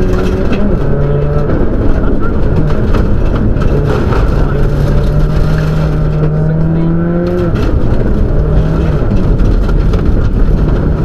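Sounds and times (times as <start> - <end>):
car engine revving: 0.0 - 11.0
tyres and stones rumbling on gravel: 0.0 - 11.0.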